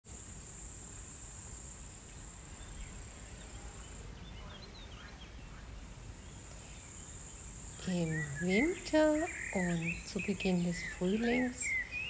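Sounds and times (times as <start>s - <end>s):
faint chirps: 0.2s - 12.0s.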